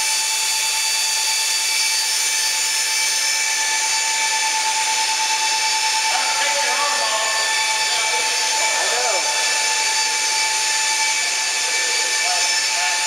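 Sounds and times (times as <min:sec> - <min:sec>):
machinery whine: 0:00.0 - 0:13.0.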